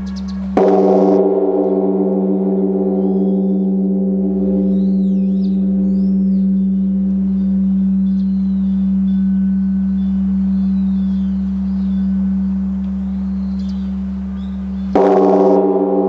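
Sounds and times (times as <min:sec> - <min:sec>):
birds chirping faintly: 0:00.0 - 0:00.7, 0:02.3 - 0:15.0
large temple bell ringing: 0:00.0 - 0:16.0.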